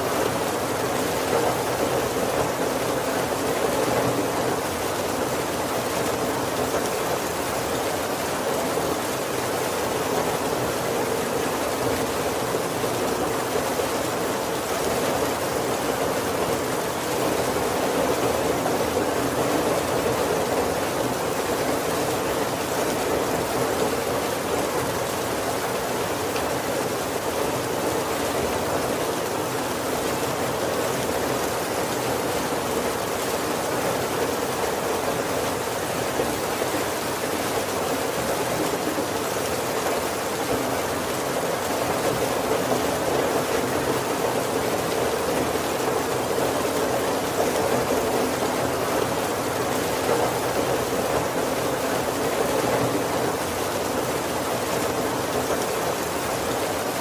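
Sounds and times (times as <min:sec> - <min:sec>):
heavy rain on wooden roof: 0:00.0 - 0:57.0.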